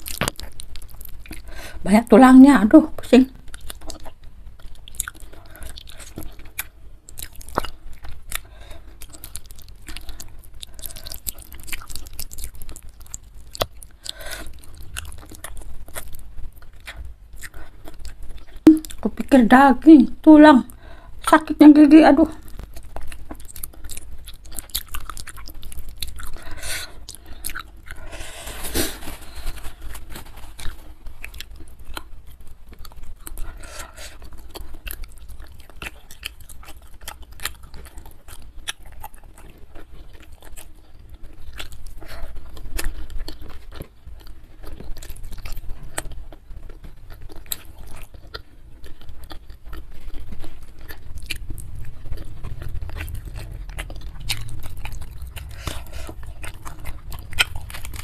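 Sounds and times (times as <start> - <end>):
close chewing and biting of meat: 0.0 - 1.8, 3.3 - 19.1, 22.4 - 58.0.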